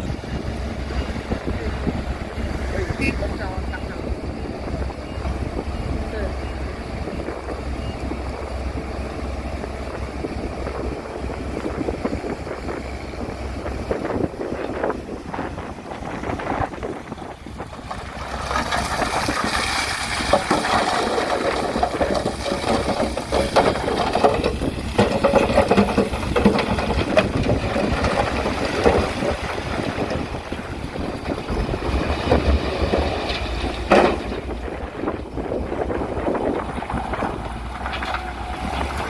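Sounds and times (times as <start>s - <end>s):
bulldozer diesel engine: 0.0s - 39.0s
gravel clanks and crunches: 0.0s - 39.0s
wind buffeting microphone: 0.0s - 39.0s.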